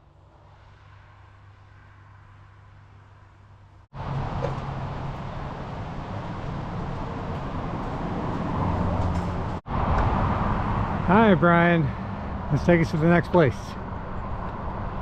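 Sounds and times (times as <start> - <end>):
vehicle engine hum and road noise: 0.0 - 15.0.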